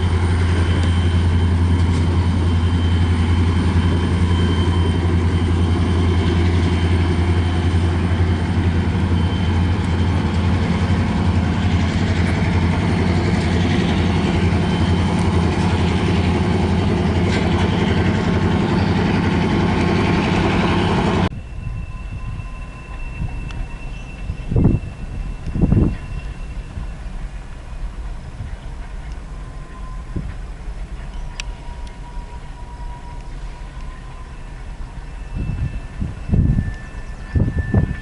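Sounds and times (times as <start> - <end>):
diesel locomotive engine drone: 0.0 - 38.0
train rumbling on rails: 0.0 - 38.0.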